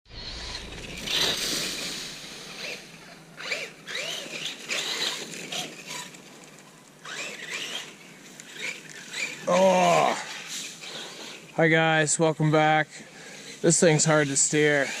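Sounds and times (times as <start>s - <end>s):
rc car motor whining: 0.1s - 15.0s.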